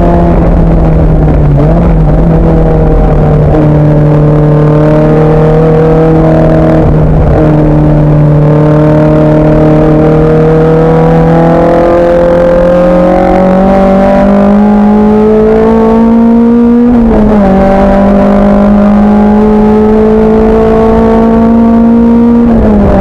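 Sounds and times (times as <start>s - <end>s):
race car engine accelerating: 0.0s - 23.0s.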